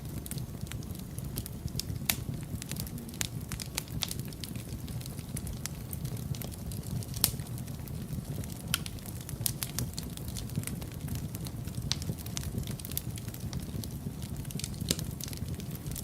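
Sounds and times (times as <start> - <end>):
fire pops and snaps: 0.0 - 16.0
low rumble of flames: 0.0 - 16.0.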